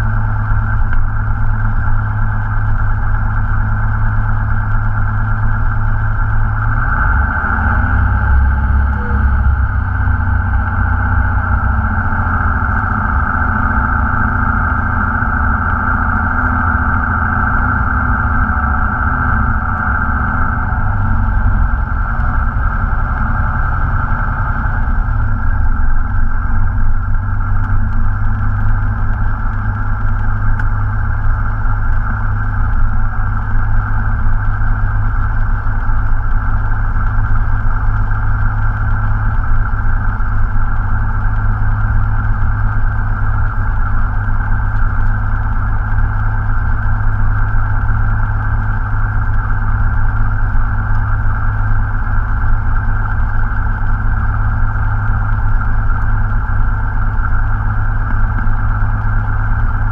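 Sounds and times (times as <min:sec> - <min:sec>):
airplane engine and propeller: 0:00.0 - 0:59.9.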